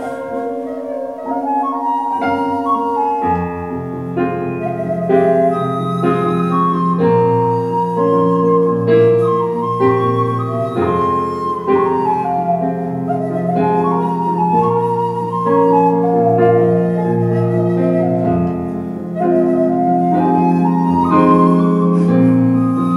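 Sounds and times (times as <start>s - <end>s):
bamboo flute melody: 0.0s - 22.9s
keyboard chords: 0.0s - 22.9s.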